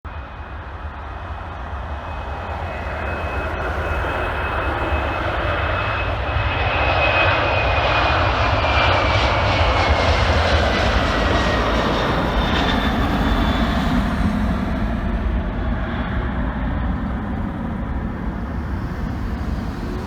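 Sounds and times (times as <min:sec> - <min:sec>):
jet engines whining and rumbling: 0:00.1 - 0:20.0.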